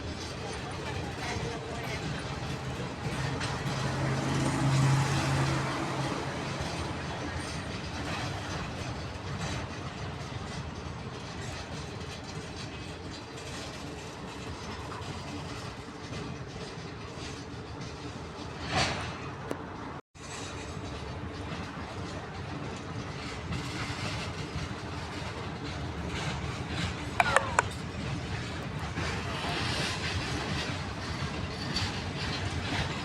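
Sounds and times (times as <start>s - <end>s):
diesel locomotive engine rumble: 0.0s - 33.0s
wheels on rails: 0.0s - 33.0s.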